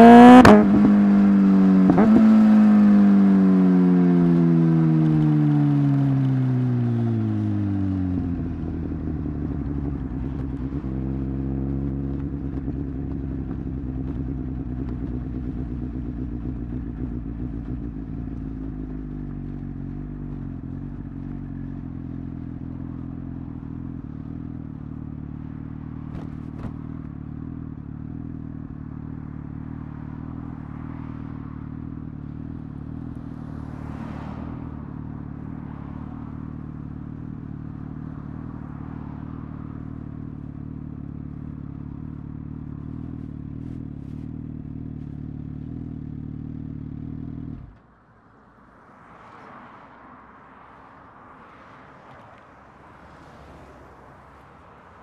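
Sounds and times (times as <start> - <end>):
motorcycle engine: 0.0 - 47.9
passing vehicle: 0.0 - 55.0.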